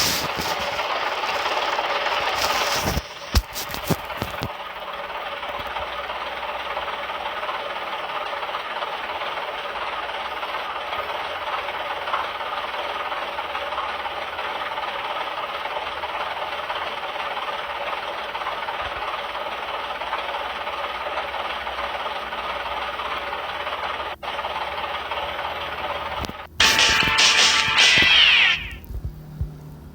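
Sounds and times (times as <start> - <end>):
heavy vehicle engine running: 0.0 - 29.9.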